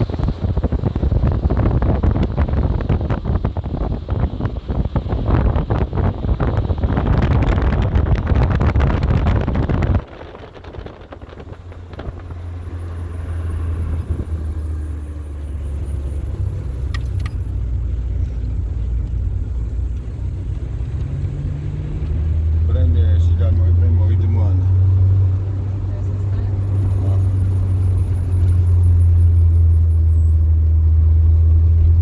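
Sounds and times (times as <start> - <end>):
wind buffeting microphone: 0.0 - 29.7
motor vehicle droning: 0.0 - 32.0.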